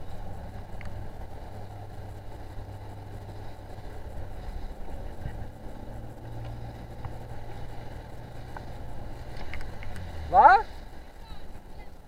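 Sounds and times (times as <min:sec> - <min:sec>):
outboard motor humming: 0:00.0 - 0:12.0
wind: 0:00.0 - 0:12.0.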